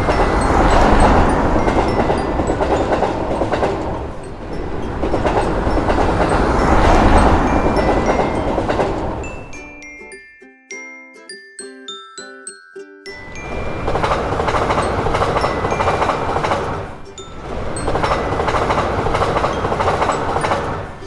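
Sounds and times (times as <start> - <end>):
wheels clattering over rails: 0.0 - 9.8, 13.2 - 21.0
train rumbling past: 0.0 - 9.9, 13.2 - 21.0.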